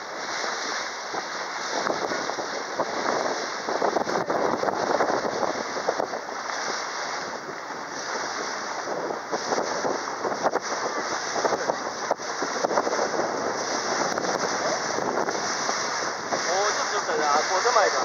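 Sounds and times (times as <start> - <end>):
water rushing along boat hull: 0.0 - 18.0
wind on microphone: 0.0 - 18.0.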